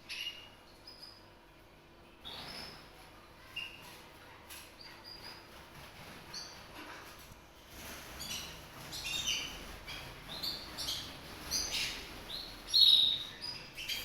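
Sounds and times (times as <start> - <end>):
canary chirping and trilling: 0.0 - 14.0.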